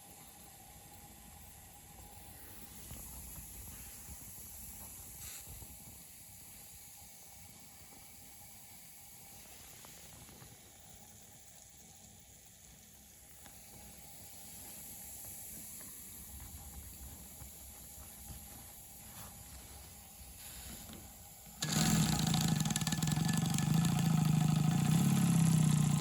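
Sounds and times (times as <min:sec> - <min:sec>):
steam engine hissing: 0:00.0 - 0:11.3, 0:13.3 - 0:26.0.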